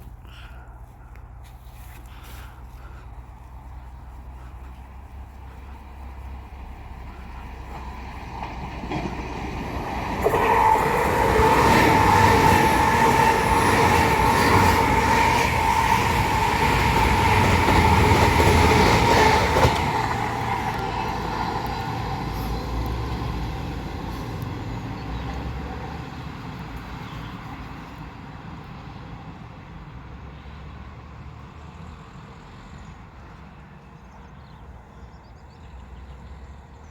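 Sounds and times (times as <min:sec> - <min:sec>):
train passing: 0:00.0 - 0:36.8
train whine: 0:02.2 - 0:34.8.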